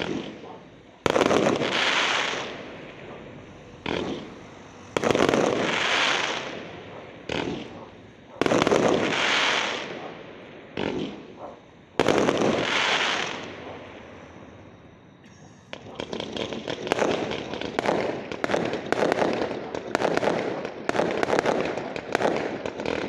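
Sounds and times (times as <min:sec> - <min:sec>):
firework shells bursting with crackle: 0:00.0 - 0:11.4, 0:12.0 - 0:14.0, 0:15.7 - 0:23.0.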